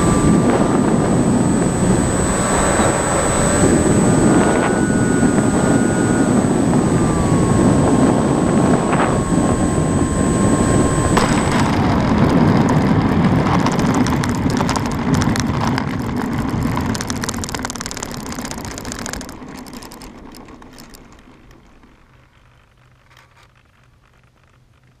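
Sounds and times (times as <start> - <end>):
model plane rattling over asphalt: 0.0 - 25.0.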